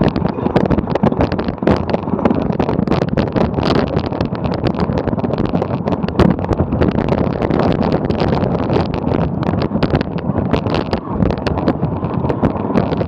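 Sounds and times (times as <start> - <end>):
bicycle rattling: 0.0 - 13.0.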